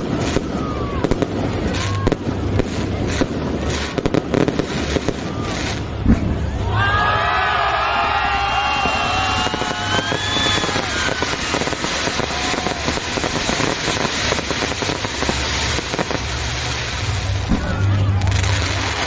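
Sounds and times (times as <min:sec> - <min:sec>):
whistling rockets: 0:00.0 - 0:19.0.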